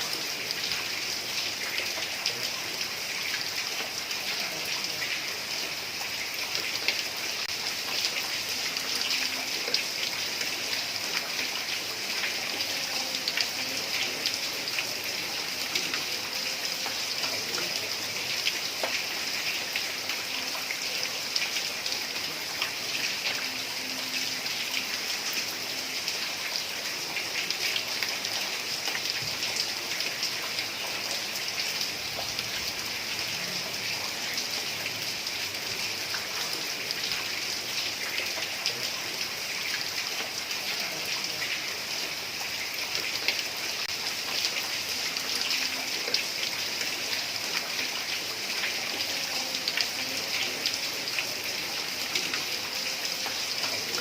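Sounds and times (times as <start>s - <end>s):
heavy rain on a tiled roof: 0.0s - 54.0s.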